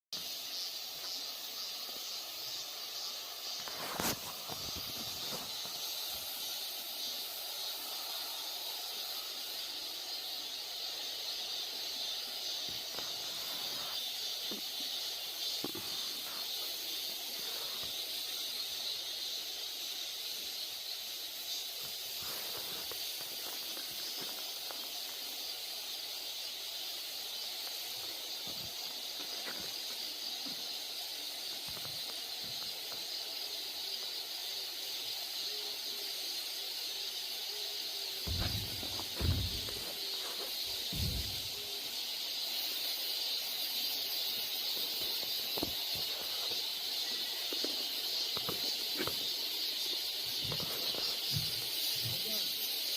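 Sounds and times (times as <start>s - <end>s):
high hiss of outdoor ambience: 0.1s - 52.9s.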